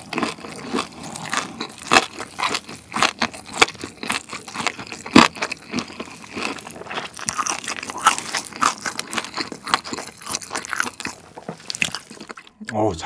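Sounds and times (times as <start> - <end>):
crunching crisp pork skin: 0.0 - 12.5.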